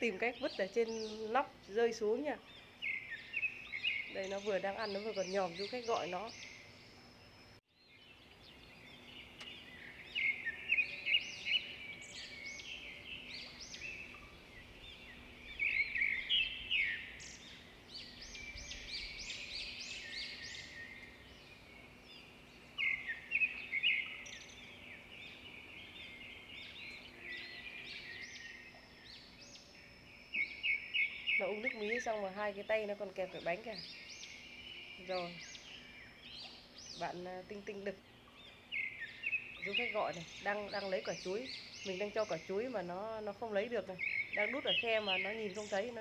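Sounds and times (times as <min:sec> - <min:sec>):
birds chirping and singing: 0:00.0 - 0:46.0.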